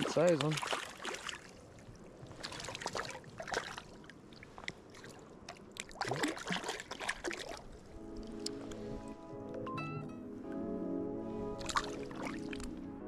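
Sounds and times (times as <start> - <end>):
water splashing and sloshing: 0.0 - 9.6, 11.3 - 13.0.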